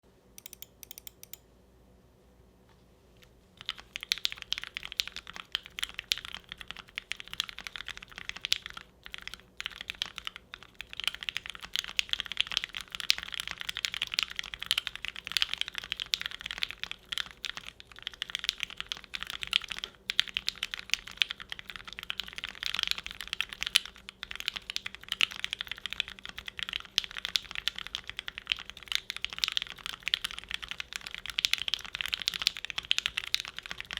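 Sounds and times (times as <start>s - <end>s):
mechanical keyboard typing: 0.4s - 1.4s, 3.6s - 33.9s.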